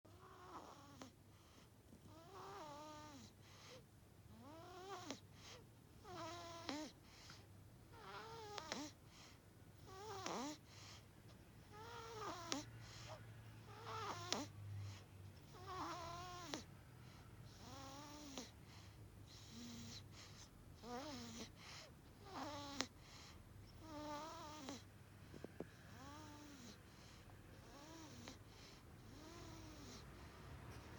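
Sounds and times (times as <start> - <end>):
baby snoring: 0.1 - 11.0, 11.7 - 16.7, 17.5 - 24.9, 25.7 - 30.9.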